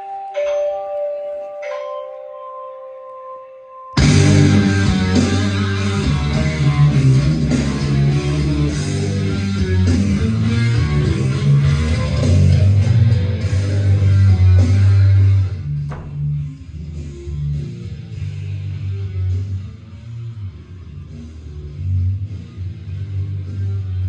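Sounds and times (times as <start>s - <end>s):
rock music through sound system: 3.9s - 24.0s.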